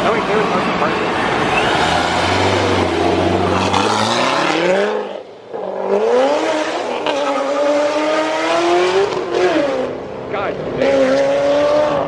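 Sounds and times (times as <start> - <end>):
car engine accelerating hard: 0.0 - 10.0, 10.6 - 12.0.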